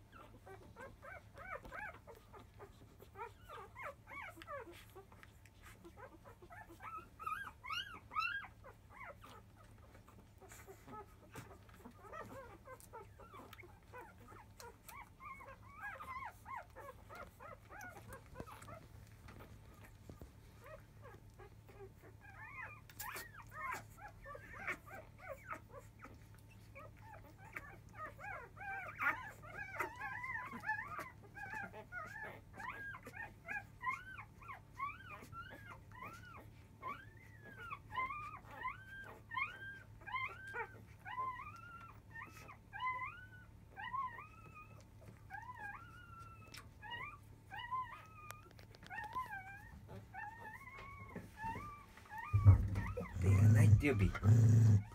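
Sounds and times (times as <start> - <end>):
puppies squeaking and whimpering: 0.0 - 54.9.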